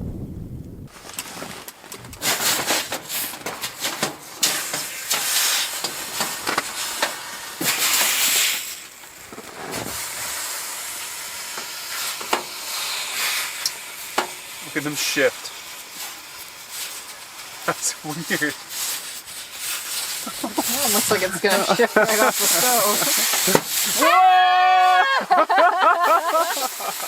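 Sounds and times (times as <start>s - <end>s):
sharp crackles and pops: 0.0s - 27.0s
pots sizzling on a hot stove: 0.9s - 27.0s.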